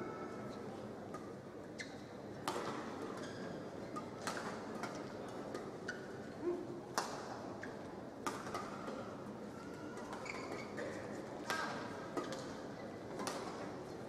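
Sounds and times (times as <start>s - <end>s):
arena background noise: 0.0s - 14.0s.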